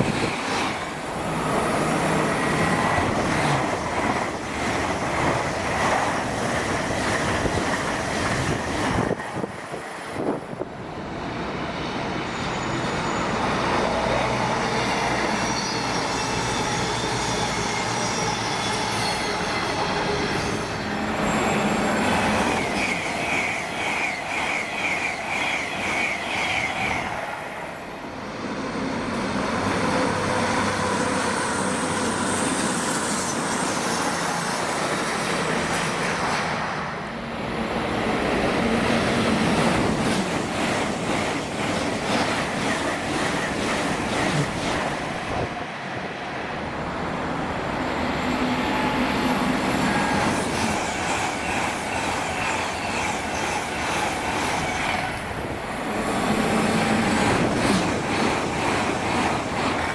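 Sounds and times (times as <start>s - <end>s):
trains rushing past: 0.0s - 59.9s.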